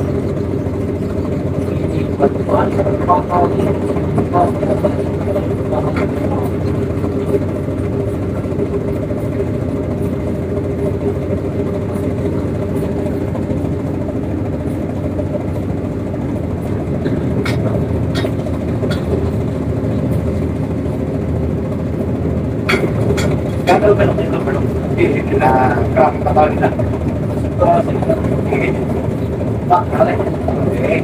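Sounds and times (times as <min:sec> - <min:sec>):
boat diesel engine drone: 0:00.0 - 0:31.0.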